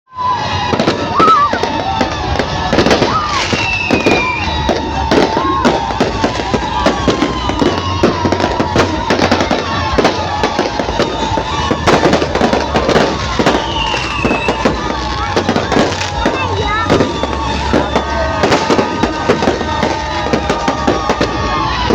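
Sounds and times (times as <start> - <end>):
fireworks bangs and crackles: 0.1 - 21.9
fireworks whistling: 0.1 - 21.9.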